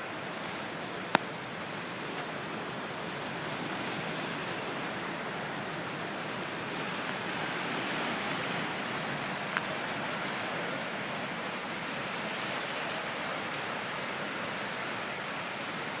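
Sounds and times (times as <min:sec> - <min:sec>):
water rushing in steady roar: 0:00.0 - 0:16.0.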